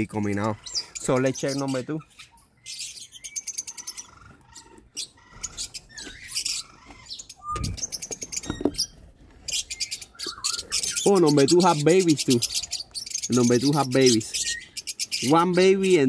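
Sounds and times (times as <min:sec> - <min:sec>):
lovebirds chirping and chattering: 0:00.0 - 0:16.0.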